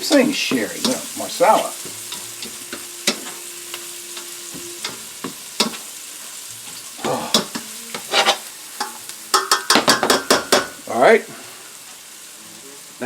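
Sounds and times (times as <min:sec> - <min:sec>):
utensil scraping a pan: 0:00.0 - 0:11.7
shallots sizzling in butter: 0:00.0 - 0:13.0.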